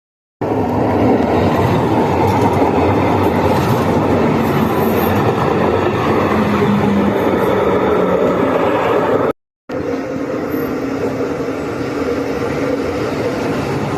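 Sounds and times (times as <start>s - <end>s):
tram wheels rumbling on rail: 0.4s - 13.9s.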